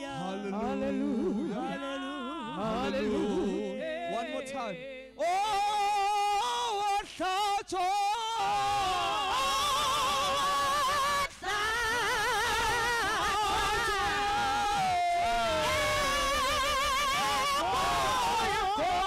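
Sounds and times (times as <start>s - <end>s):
congregation singing a hymn: 0.0s - 5.0s, 8.4s - 19.0s.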